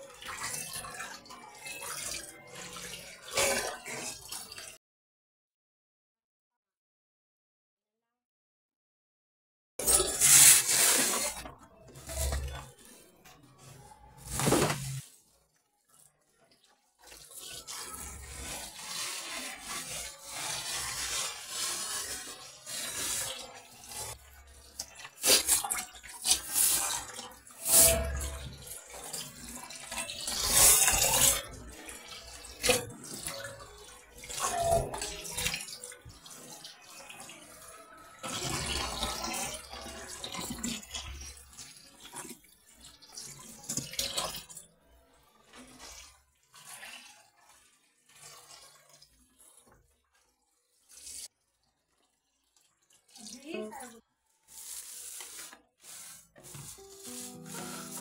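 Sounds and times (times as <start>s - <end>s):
fish rinsed by hand sloshing: 0.0s - 4.8s, 9.8s - 58.0s.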